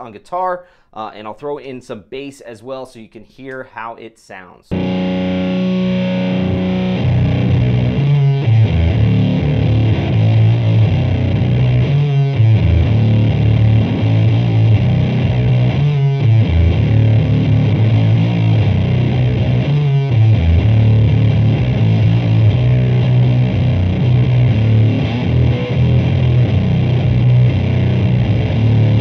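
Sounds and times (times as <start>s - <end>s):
fuzz electric guitar riff: 4.7s - 29.0s.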